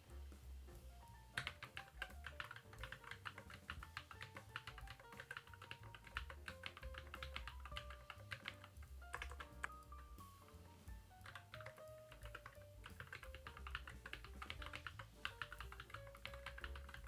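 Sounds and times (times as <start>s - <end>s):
background music: 0.0s - 17.0s
fast typing on mechanical keyboard: 1.2s - 9.9s, 11.0s - 17.0s.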